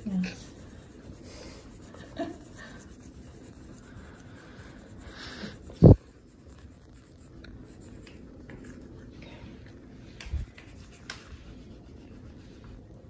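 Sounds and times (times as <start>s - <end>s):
crayon rubbing on paper: 0.0s - 8.8s, 10.5s - 12.8s.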